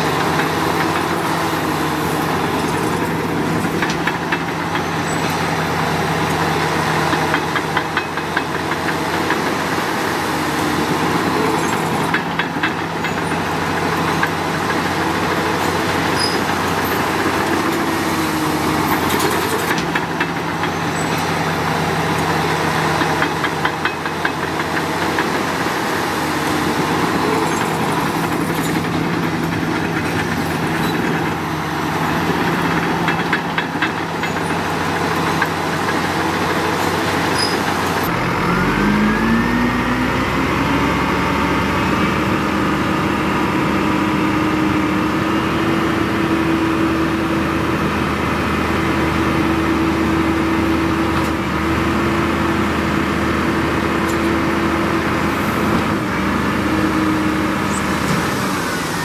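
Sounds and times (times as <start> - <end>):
heavy diesel engine running: 0.0 - 59.0
machinery clanking: 0.0 - 59.0.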